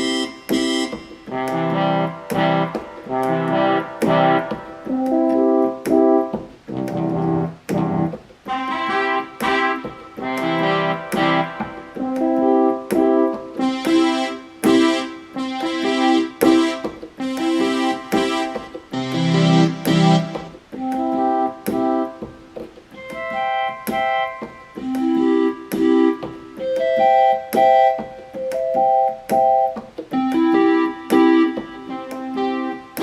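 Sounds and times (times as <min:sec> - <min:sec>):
electronic keyboard phrases: 0:00.0 - 0:33.0.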